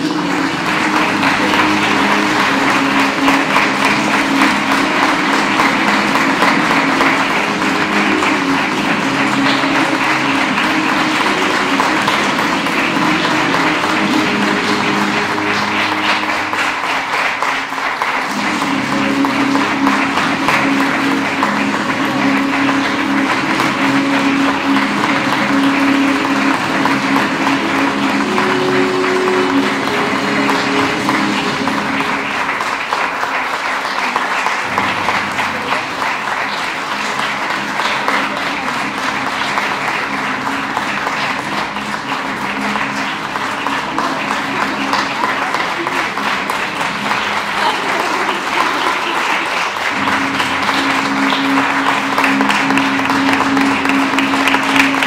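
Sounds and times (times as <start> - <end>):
audience applause: 0.0 - 55.0
recorded music: 0.0 - 55.0.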